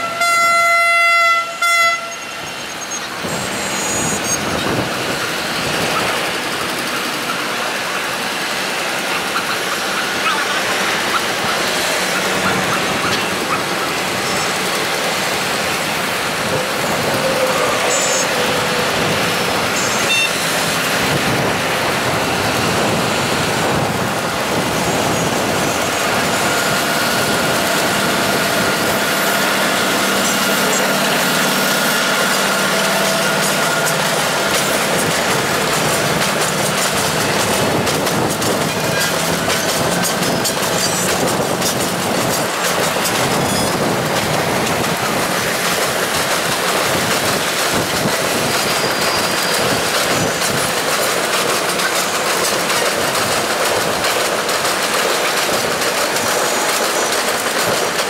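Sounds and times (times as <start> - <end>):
train engine drone: 0.0 - 58.0
train wheels clattering: 2.3 - 58.0.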